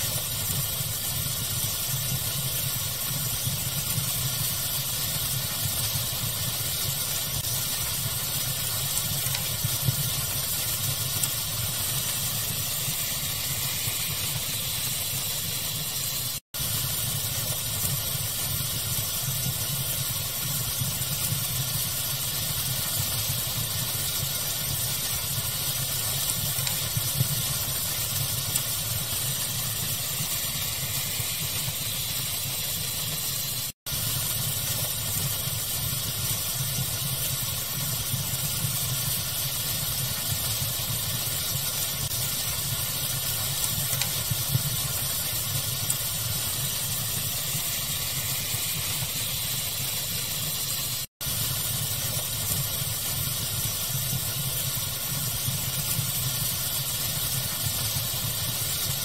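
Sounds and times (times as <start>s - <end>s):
fire crackling and popping: 0.0s - 59.0s
steady pink noise: 0.0s - 59.0s.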